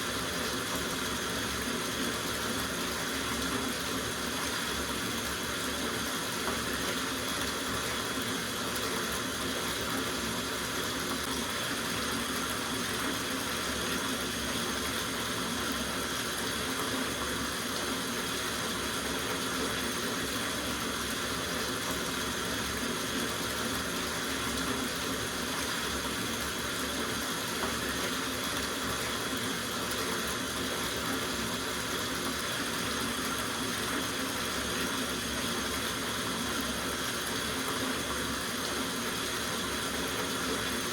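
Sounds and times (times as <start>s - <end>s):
tap water running into bathtub: 0.0s - 40.9s.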